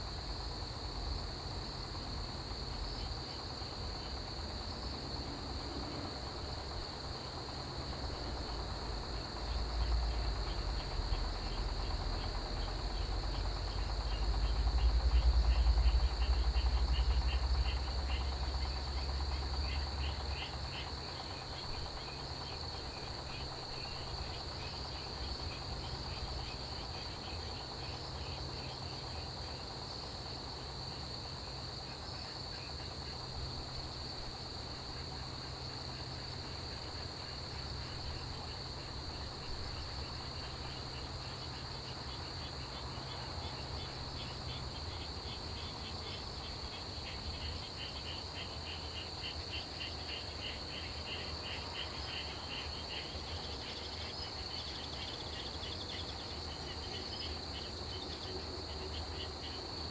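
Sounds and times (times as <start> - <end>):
crickets high-pitched trill: 0.0 - 59.9
insect rapid pulsed chirping: 0.0 - 59.9.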